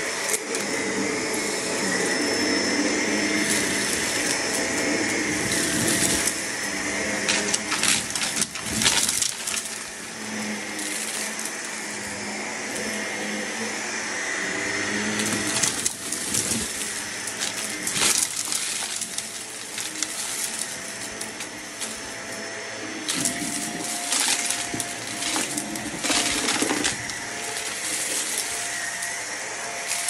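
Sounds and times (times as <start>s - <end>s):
grit rattling through vacuum: 0.0s - 30.0s
vacuum cleaner running: 0.0s - 30.0s.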